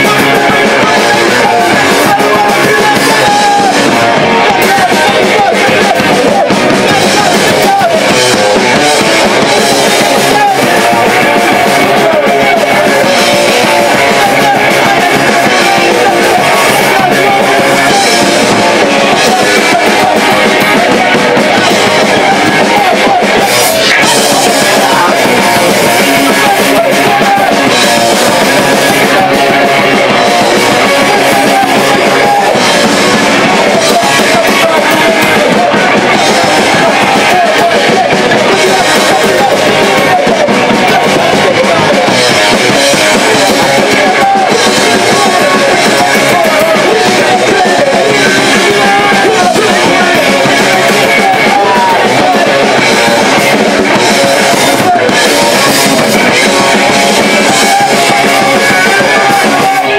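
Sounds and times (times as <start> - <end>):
drum kit: 0.0 - 59.9
electric guitar: 0.0 - 59.9
punk band playing live: 0.0 - 59.9.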